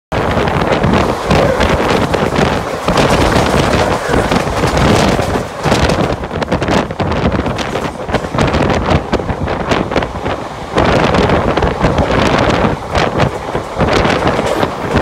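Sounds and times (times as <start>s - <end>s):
train rushing past: 0.1s - 15.0s
wind buffeting microphone: 0.1s - 15.0s
train wheels clattering on rails: 0.2s - 15.0s.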